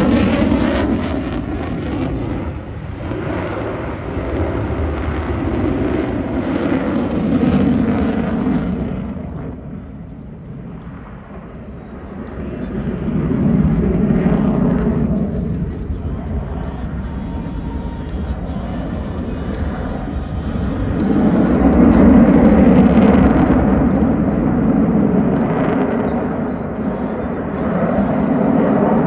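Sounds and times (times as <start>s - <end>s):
jet engine roaring: 0.0s - 29.0s.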